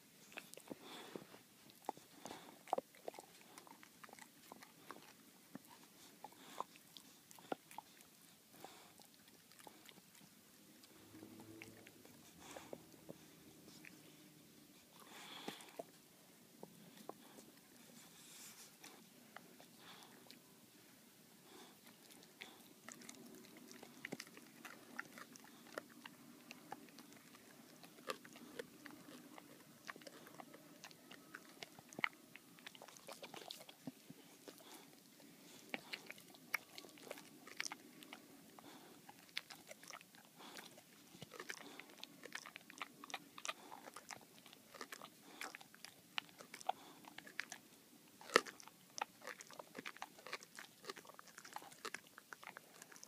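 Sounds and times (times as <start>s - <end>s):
dog chewing a bone: 0.0s - 16.0s, 16.6s - 20.4s, 21.4s - 53.0s.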